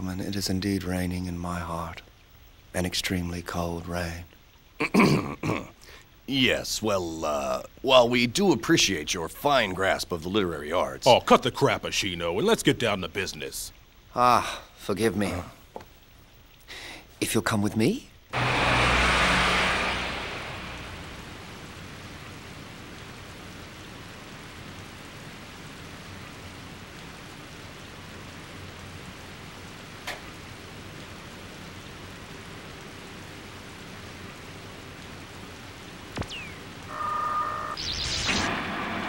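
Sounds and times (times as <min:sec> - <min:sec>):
rain hiss: 0:00.0 - 0:39.0.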